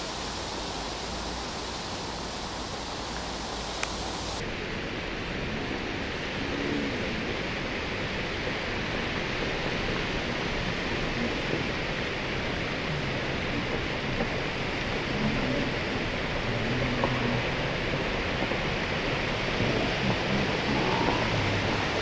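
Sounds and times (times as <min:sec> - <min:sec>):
steady rushing noise: 0:00.0 - 0:22.0.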